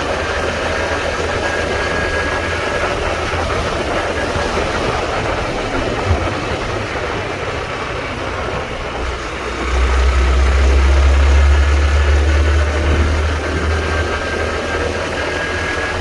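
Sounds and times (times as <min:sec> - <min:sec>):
deep rumble: 0:00.0 - 0:16.0
motorcycle engine running: 0:00.0 - 0:16.0
steady rushing noise: 0:00.0 - 0:16.0.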